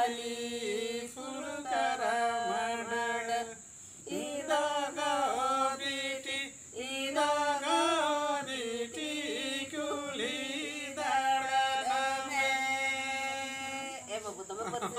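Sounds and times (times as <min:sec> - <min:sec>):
voices singing unaccompanied: 0:00.0 - 0:14.9.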